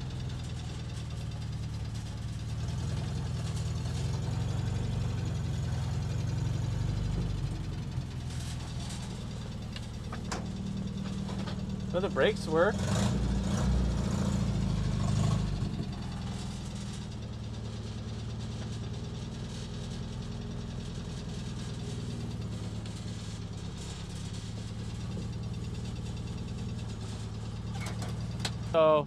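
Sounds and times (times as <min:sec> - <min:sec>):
engine idling with rapid clacking: 0:00.0 - 0:29.0.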